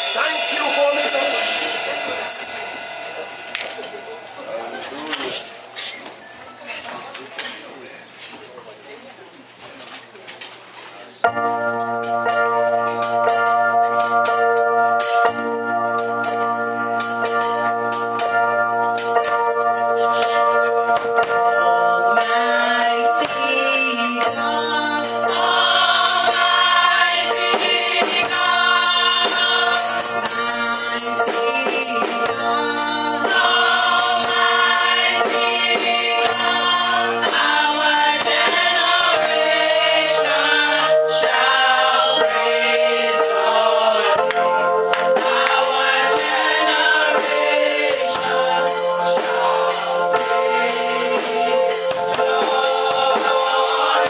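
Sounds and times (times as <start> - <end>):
tambourine rhythm: 0.0 - 6.5, 12.9 - 20.5, 22.3 - 54.0
gospel choir singing: 0.0 - 6.8, 11.4 - 54.0.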